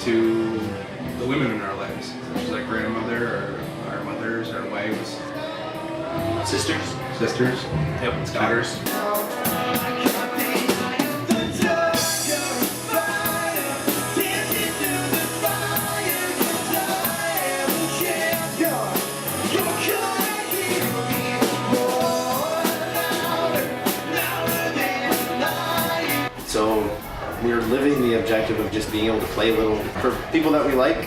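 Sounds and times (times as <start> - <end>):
rock band music with singing: 0.0 - 31.0.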